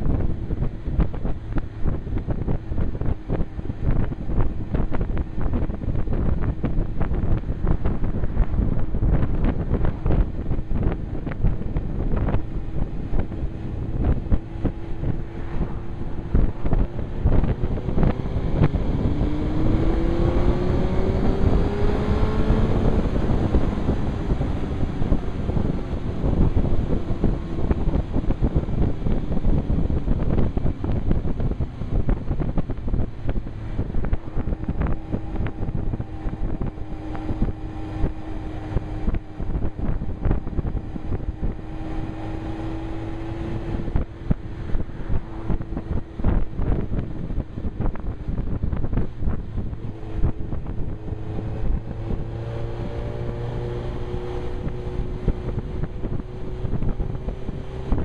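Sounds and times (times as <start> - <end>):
motorcycle engine: 0.0 - 58.0
wind buffeting microphone: 0.0 - 58.0.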